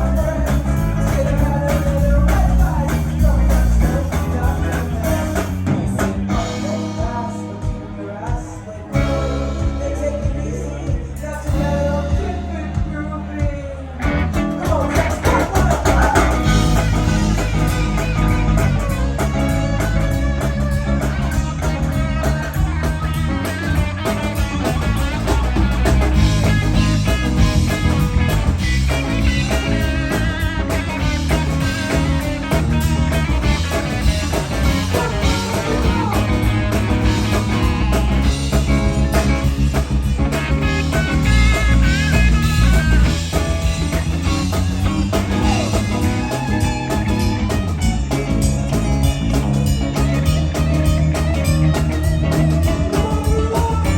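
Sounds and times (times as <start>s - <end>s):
bass guitar: 0.0s - 53.9s
drum kit: 0.0s - 53.9s
electric guitar lead: 0.0s - 53.9s.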